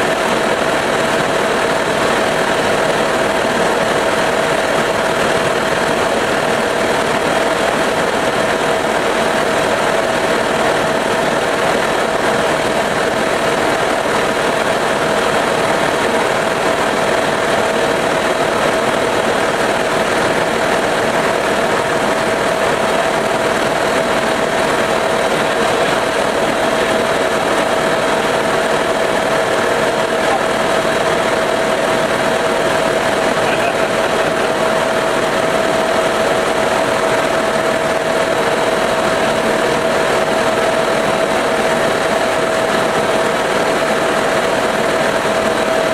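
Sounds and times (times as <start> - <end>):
helicopter engine and rotors drone: 0.0 - 45.9.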